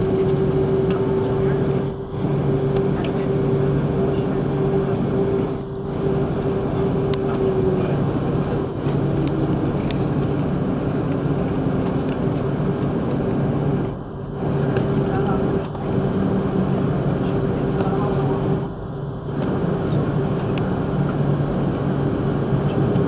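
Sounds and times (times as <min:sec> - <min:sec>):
jet engines heard from cabin: 0:00.0 - 0:23.0.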